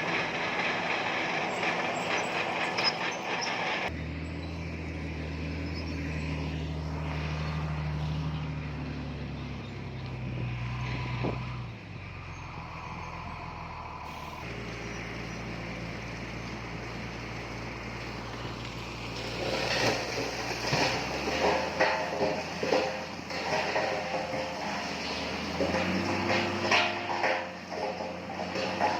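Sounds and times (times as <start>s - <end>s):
machinery clanking and rattling: 0.0s - 10.5s, 12.4s - 28.9s
heavy diesel engine running: 0.0s - 28.9s.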